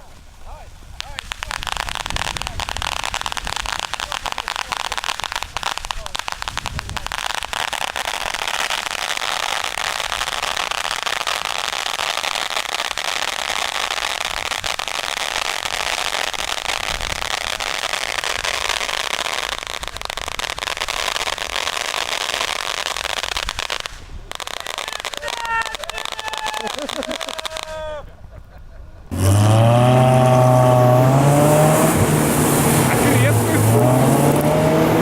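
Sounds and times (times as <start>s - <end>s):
fireworks crackling: 0.0s - 35.0s.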